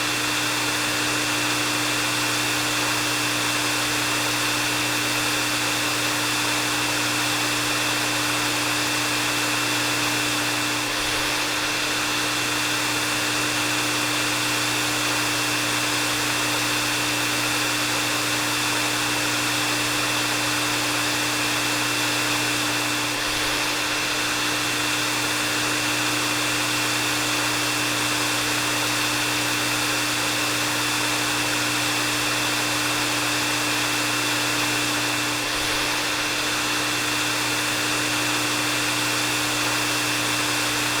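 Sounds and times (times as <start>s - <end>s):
hair dryer running: 0.0s - 41.0s.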